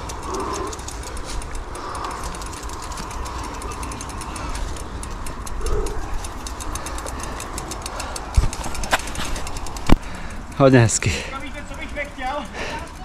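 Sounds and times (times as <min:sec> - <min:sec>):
bicycle bump: 0:00.0 - 0:10.6
bicycle ticking and rattling: 0:00.0 - 0:13.0.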